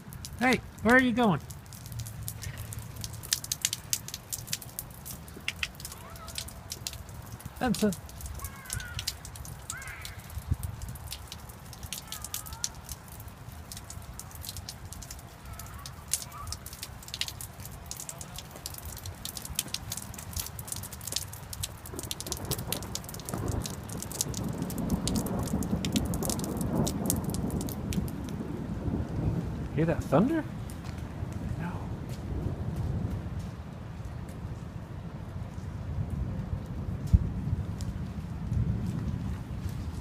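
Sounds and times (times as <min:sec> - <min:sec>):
rain dripping and pattering: 0:00.0 - 0:40.0
thunder rumbling: 0:01.7 - 0:33.9, 0:35.8 - 0:40.0.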